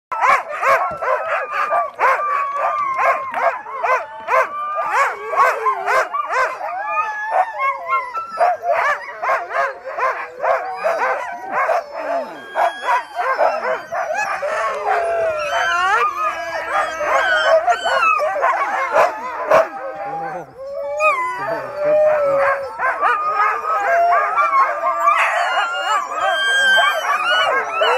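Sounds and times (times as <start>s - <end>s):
dogs barking and yipping: 0.1s - 27.9s
dogs howling and whining: 0.1s - 27.9s.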